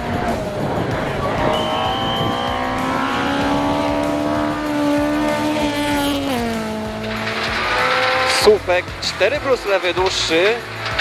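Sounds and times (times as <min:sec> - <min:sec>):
car engine revving under load: 0:00.0 - 0:11.0
tyres on gravel rushing: 0:00.0 - 0:11.0.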